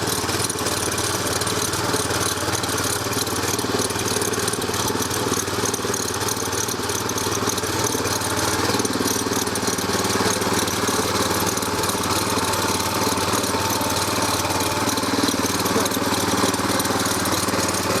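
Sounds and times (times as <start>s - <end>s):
small petrol engine running: 0.0s - 18.0s
tiller blades cutting sod: 0.0s - 18.0s.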